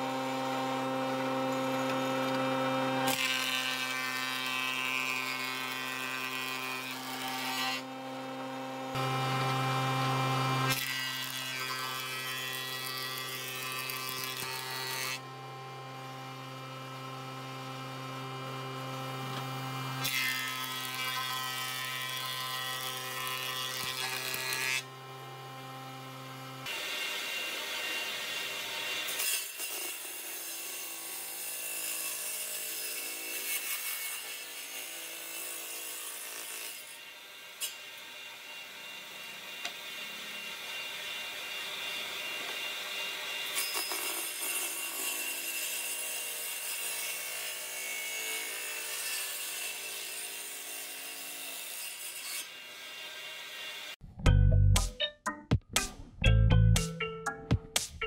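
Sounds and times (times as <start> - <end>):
planer cutting boards: 0.0 - 54.0
table saw running: 0.0 - 54.0.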